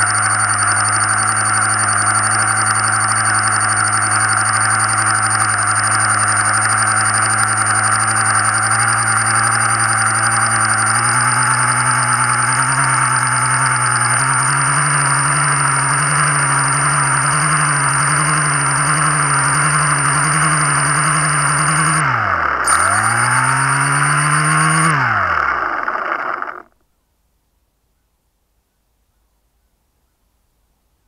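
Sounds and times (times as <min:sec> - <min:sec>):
drone motor whining: 0:00.0 - 0:26.8.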